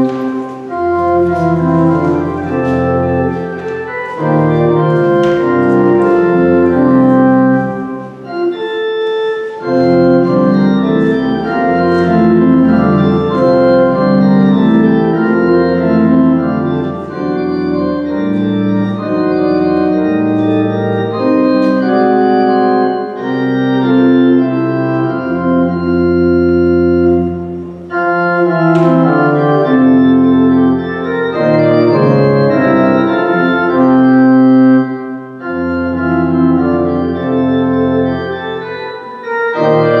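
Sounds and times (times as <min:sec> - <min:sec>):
church organ playing chords: 0:00.0 - 0:40.0.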